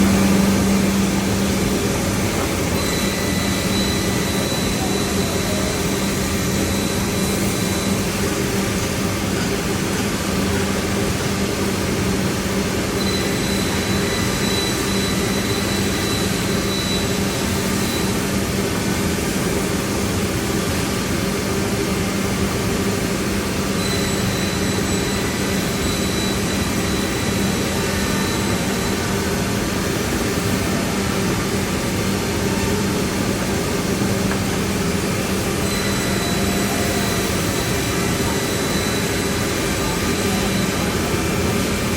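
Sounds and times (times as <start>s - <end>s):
high machine whine: 0.0s - 41.9s.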